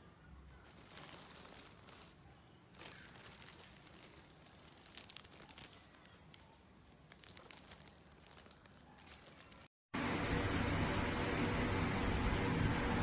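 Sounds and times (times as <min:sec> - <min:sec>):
rustling and crinkling of handled things: 0:00.0 - 0:11.4.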